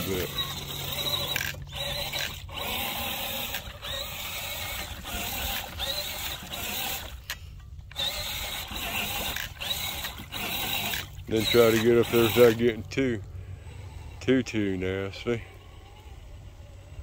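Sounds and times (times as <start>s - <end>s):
toy car motor whirring: 0.0s - 12.9s, 13.6s - 17.0s.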